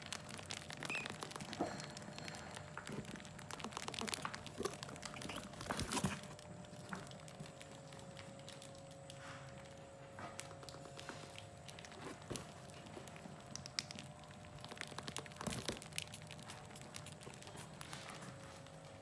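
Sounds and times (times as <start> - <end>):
cardboard crinkling on bucket: 0.0 - 19.0
faint steady hum: 0.0 - 19.0
small clicks and scratches: 0.1 - 19.0.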